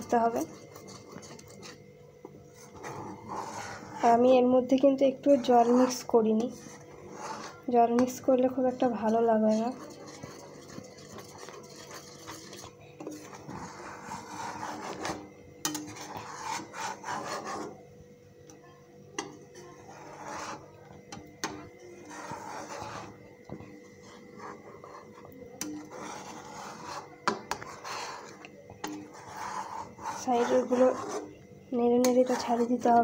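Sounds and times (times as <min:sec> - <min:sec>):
spoon scraping a pan: 0:00.0 - 0:01.8, 0:02.5 - 0:17.8, 0:19.2 - 0:33.0.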